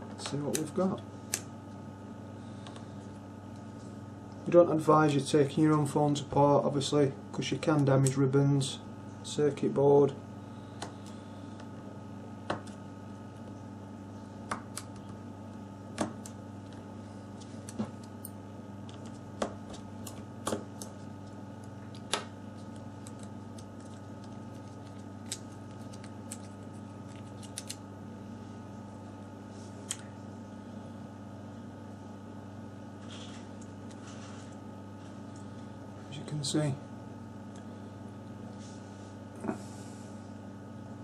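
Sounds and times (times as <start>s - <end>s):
electrical hum: 0.0s - 41.0s.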